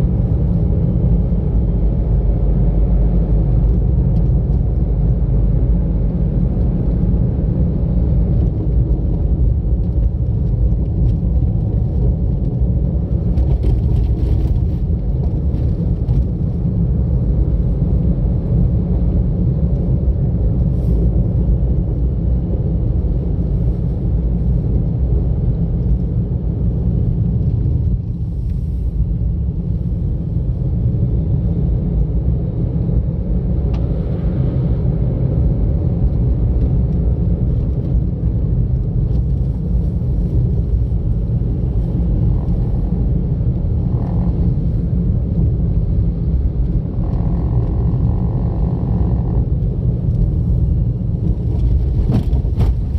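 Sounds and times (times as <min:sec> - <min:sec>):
car interior road and engine rumble: 0:00.0 - 0:52.9.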